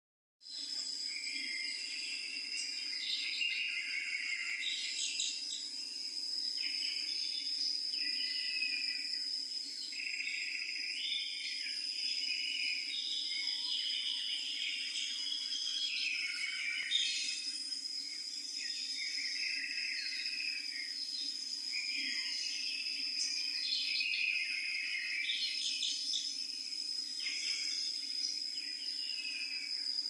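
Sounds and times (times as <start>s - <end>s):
insect buzzing: 0.5s - 30.0s
insects trilling: 0.5s - 30.0s.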